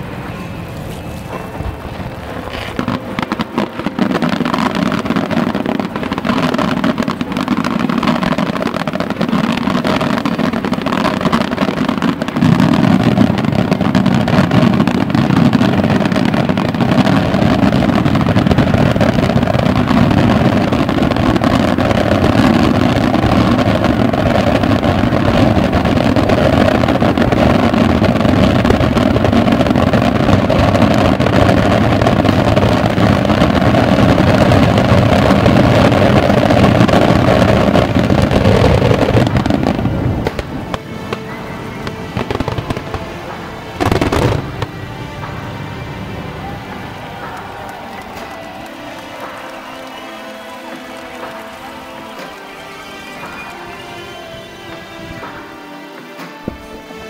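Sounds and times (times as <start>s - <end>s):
fireworks bursts rumbling: 0.0s - 57.0s.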